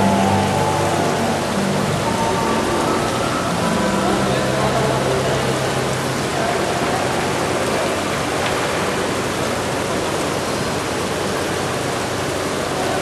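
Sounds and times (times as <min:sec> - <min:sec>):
falling water splashing: 0:00.0 - 0:13.0.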